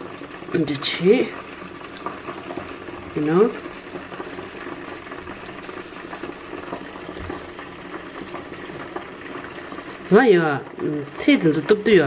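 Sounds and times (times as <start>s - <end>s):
food bubbling and sizzling: 0.0s - 12.0s.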